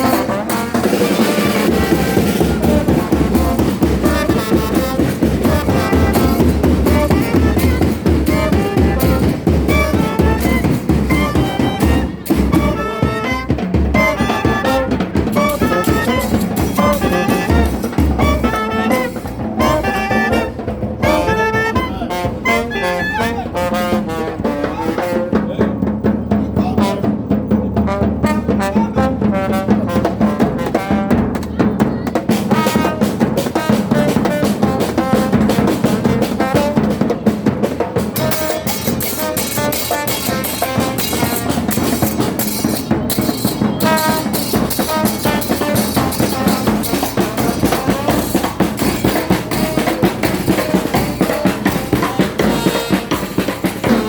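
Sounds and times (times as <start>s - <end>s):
drums and percussion: 0.0s - 54.0s
wind instruments playing melody: 0.0s - 54.0s.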